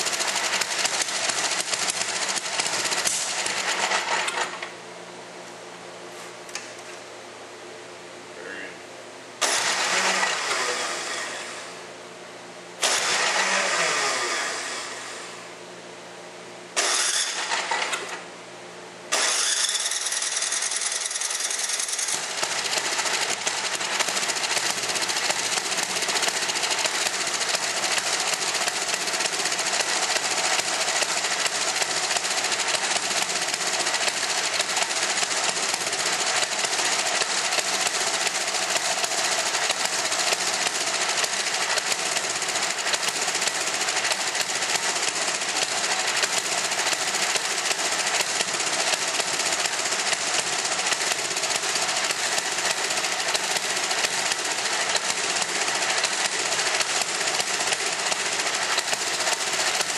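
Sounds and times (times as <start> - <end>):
snowblower engine running: 0.0 - 4.7, 9.4 - 11.8, 12.8 - 15.4, 16.8 - 18.2, 19.1 - 59.9.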